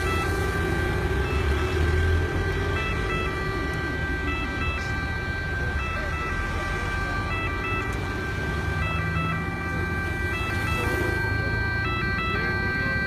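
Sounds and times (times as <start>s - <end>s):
cars passing with engine rumble: 0.0s - 13.0s.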